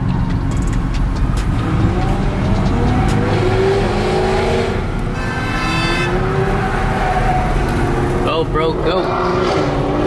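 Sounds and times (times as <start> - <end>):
low engine rumble: 0.0 - 8.8
car accelerating: 0.0 - 10.0.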